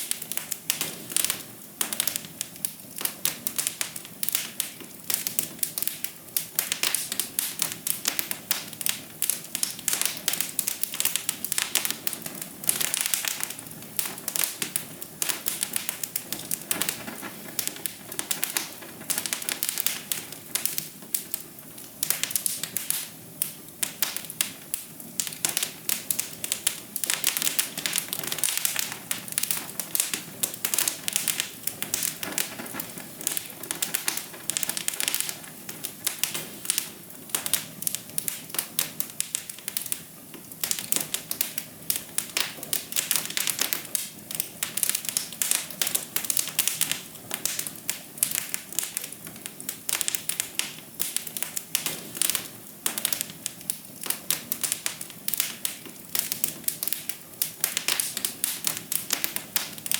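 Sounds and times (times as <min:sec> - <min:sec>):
hiss of flame: 0:00.0 - 0:59.9
wood fire crackling: 0:00.0 - 0:59.9.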